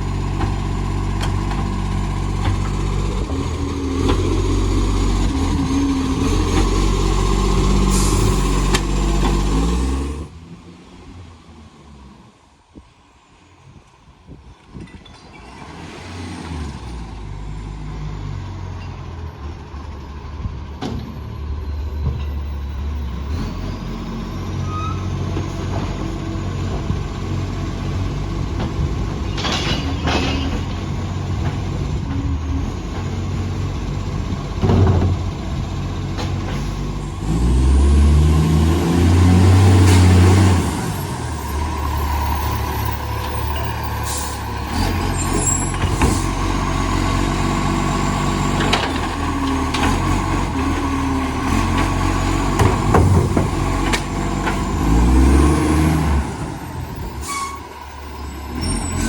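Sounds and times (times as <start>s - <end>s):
diesel truck engine revving: 0.0s - 12.5s, 15.4s - 59.0s.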